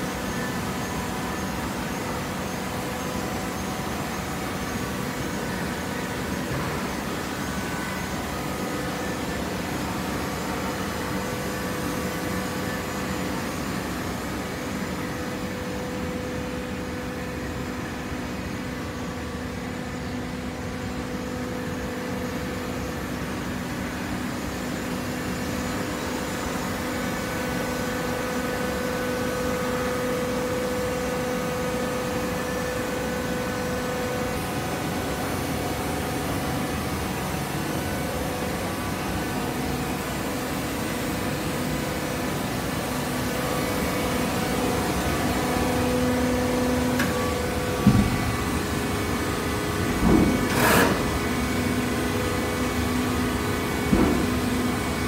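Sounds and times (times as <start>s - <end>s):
baler machine drone: 0.0s - 55.0s.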